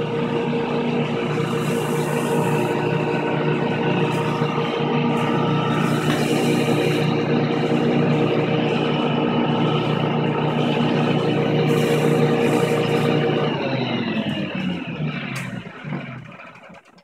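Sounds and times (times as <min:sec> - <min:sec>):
jointer motor hum and whine: 0:00.0 - 0:16.8.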